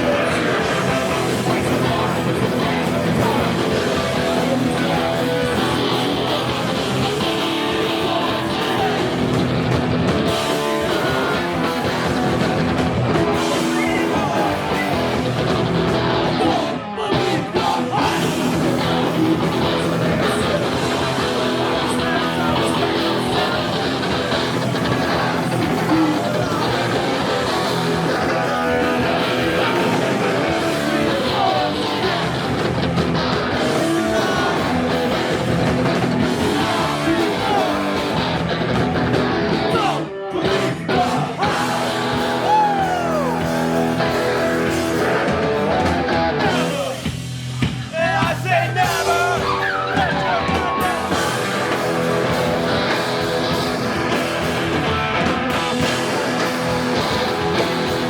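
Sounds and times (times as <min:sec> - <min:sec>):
punk rock band playing: 0:00.0 - 0:58.0
yelled vocals: 0:00.0 - 0:58.0.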